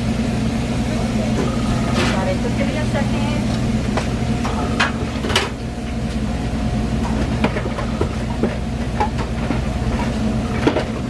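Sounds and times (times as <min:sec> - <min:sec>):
exhaust fan hum: 0:00.0 - 0:11.0.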